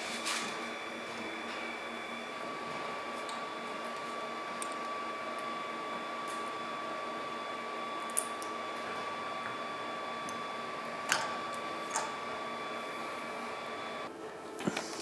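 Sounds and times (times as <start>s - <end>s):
steady machine whine: 0.0s - 14.6s.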